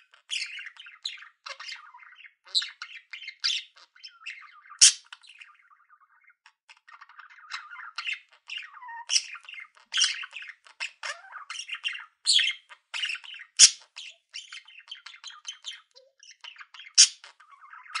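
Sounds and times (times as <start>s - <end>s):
budgerigars chattering: 0.0s - 18.0s
sharp bird calls: 0.0s - 18.0s.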